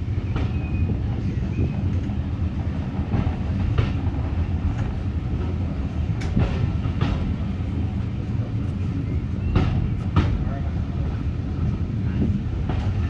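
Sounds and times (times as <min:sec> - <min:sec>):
train carriage low rumble: 0:00.0 - 0:13.0.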